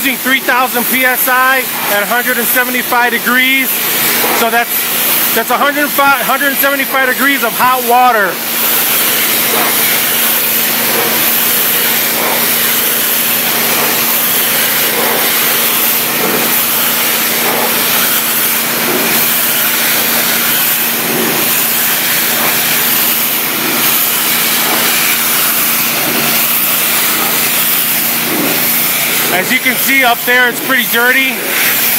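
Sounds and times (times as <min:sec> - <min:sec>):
high-pressure spray hissing: 0:00.0 - 0:31.9
pressure washer hum: 0:00.0 - 0:31.9.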